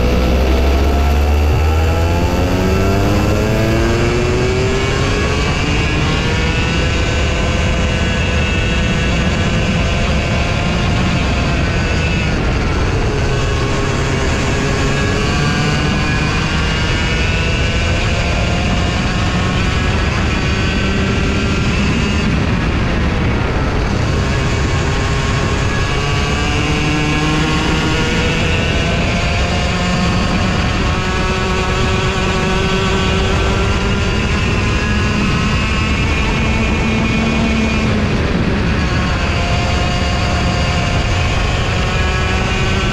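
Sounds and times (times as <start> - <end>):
kart engine revving: 0.0 - 42.9.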